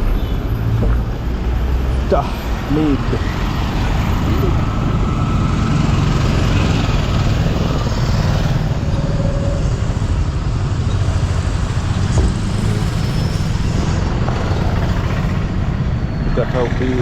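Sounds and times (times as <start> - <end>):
road vehicle deep rumble: 0.0 - 17.0.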